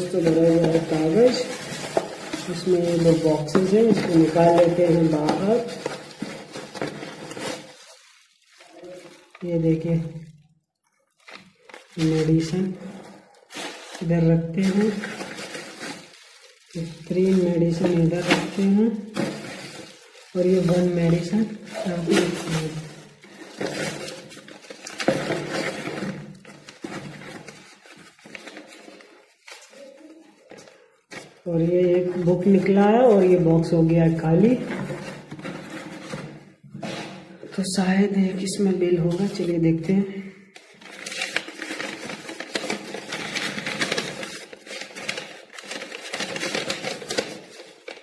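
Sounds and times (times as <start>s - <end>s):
bubble wrap and paper crinkling: 0.0s - 48.0s.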